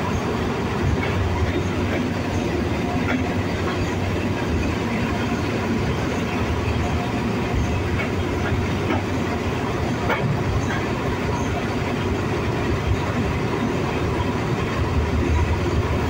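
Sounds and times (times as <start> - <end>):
track clacks: 0.0 - 16.0
train wheels rumbling: 0.0 - 16.0.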